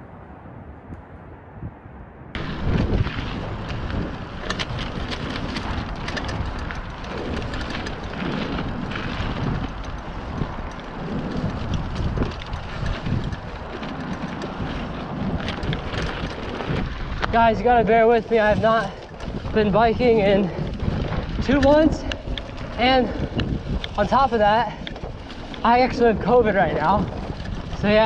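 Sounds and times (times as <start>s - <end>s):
wind on microphone: 0.0s - 28.0s
bike rattling over bumps: 2.4s - 28.0s
tyres crackling over leaves: 2.4s - 28.0s.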